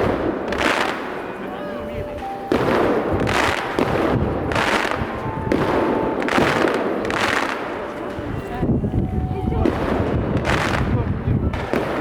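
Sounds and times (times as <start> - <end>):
fireworks bursting with crackling: 0.0 - 1.5, 2.4 - 8.4, 9.5 - 12.0.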